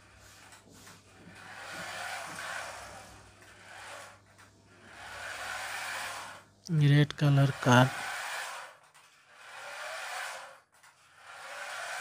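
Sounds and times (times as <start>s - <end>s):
toy car motor whirring: 0.0s - 6.5s, 7.1s - 12.0s.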